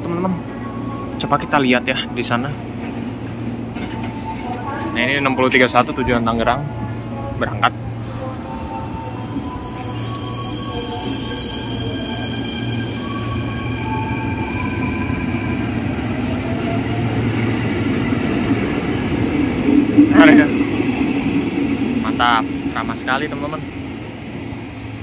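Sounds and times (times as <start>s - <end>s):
electric train hum and whine: 0.0s - 25.0s.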